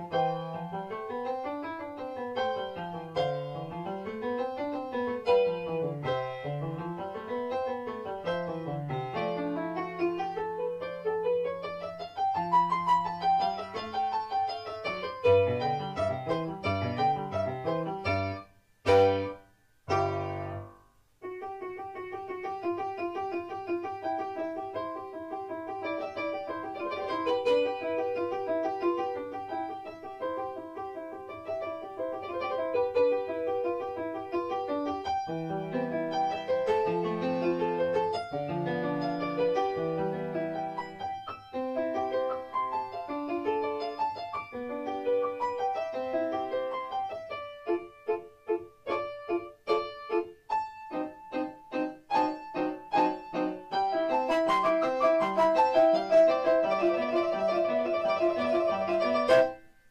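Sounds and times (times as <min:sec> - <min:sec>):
loud piano chords: 0:00.0 - 0:59.9
piano music: 0:00.0 - 0:59.9.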